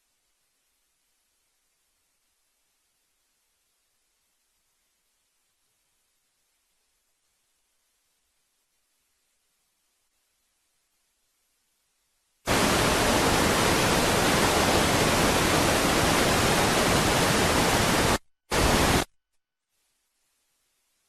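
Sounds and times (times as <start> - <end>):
electronic static hiss: 0.0 - 19.1.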